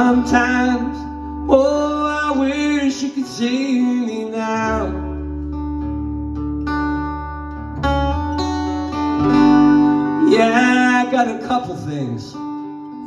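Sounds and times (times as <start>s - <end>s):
low bass line: 0.0s - 3.0s, 4.5s - 13.0s
acoustic guitar strumming chords: 0.0s - 13.0s.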